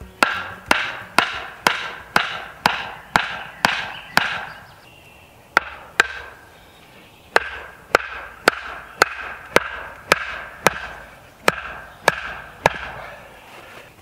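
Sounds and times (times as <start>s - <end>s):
hammer driving wooden stakes: 0.0s - 4.6s, 5.5s - 6.4s, 7.3s - 13.8s.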